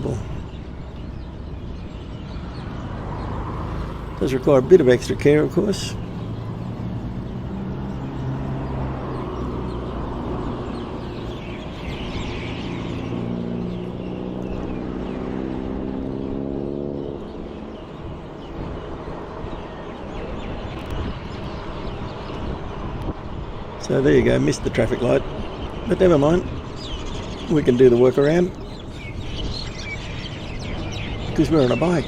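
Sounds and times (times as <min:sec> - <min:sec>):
road and wind rush: 0:00.0 - 0:32.0
vehicle engine humming: 0:00.0 - 0:32.0.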